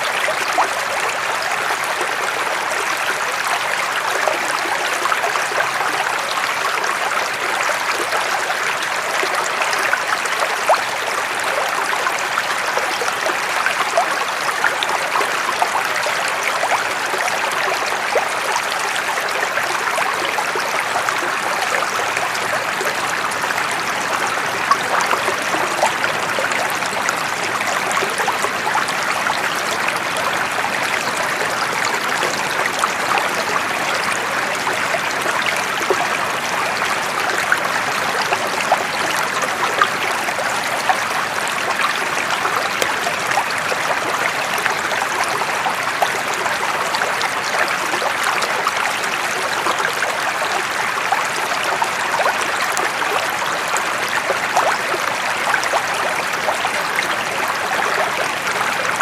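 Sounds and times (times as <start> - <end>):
running water rushing: 0.0 - 59.0
water splashing and trickling: 0.0 - 59.0.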